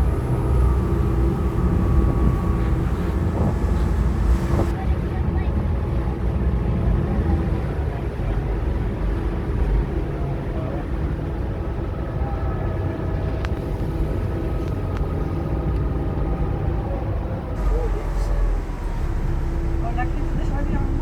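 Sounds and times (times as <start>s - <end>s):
ferry engine droning: 0.0s - 21.0s.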